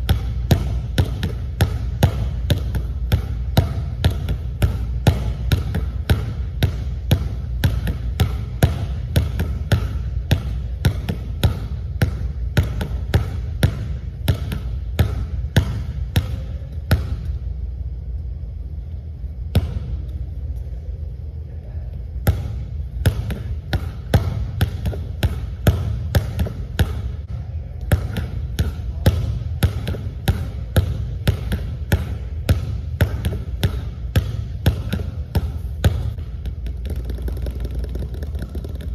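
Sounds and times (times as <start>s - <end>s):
basketball bouncing on hardwood floor: 0.0s - 17.4s, 19.5s - 20.1s, 22.2s - 38.9s
steady low hum: 0.0s - 38.9s.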